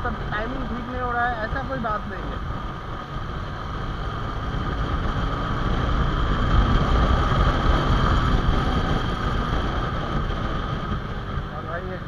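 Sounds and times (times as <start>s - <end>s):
motorcycle engine drone: 0.0s - 12.0s
wind rush on microphone: 0.0s - 12.0s.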